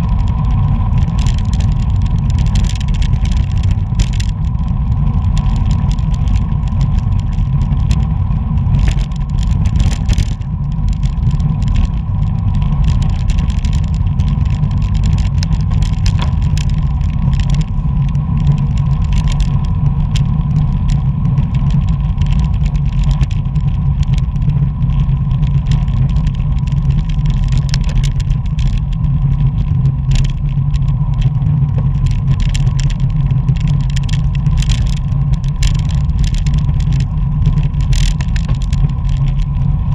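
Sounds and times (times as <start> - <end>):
bicycle clicks and rattles: 0.0 - 39.9
tyre and road noise: 0.0 - 39.9
wind buffeting microphone: 0.0 - 39.9.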